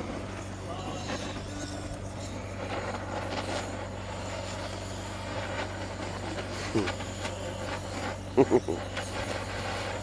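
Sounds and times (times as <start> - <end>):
blowtorch hissing: 0.0 - 10.0.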